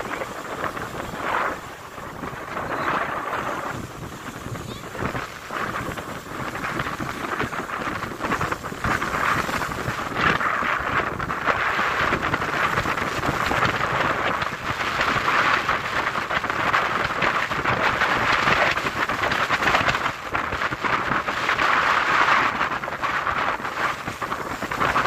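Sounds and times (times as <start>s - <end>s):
surf breaking on pebble beach: 0.0s - 25.0s.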